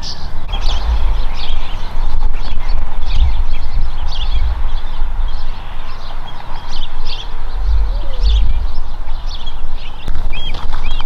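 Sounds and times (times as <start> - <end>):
clear curved bird chirp: 0.0 - 11.0
small birds chirping: 0.0 - 11.0
uneven low rumble: 0.5 - 10.4.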